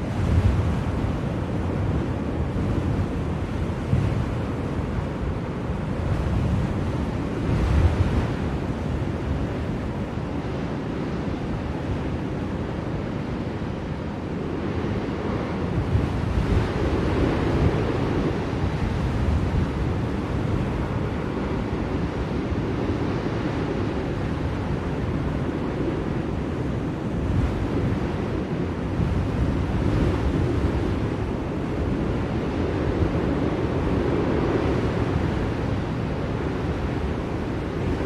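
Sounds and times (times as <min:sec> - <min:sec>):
blizzard wind rushing: 0:00.0 - 0:38.0.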